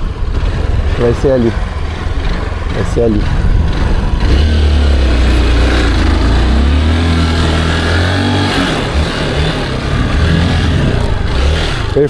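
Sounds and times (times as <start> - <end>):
small motorcycle engine: 0.0 - 12.0.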